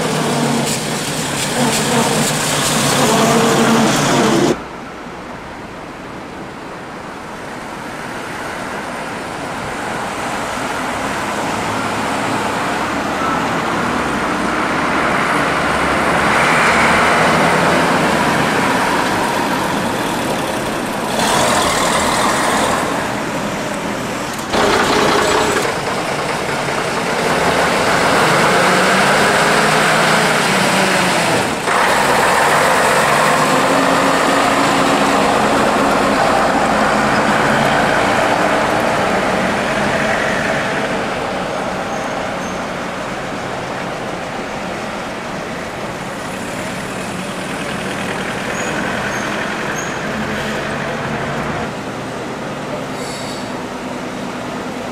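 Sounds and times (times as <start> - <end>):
bus diesel engines droning: 0.0 - 54.9
passing road traffic: 0.0 - 54.9.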